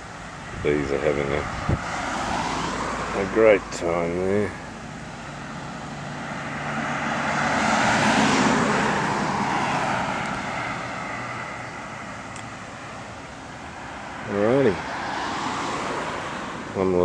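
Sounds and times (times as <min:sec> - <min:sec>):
passing vehicle engine: 0:00.0 - 0:17.0.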